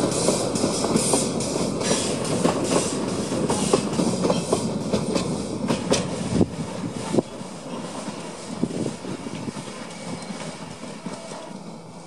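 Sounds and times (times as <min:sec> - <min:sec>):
wheels clicking over rail joints: 0:00.0 - 0:06.2, 0:07.1 - 0:11.9
rumble of moving train: 0:00.0 - 0:12.0.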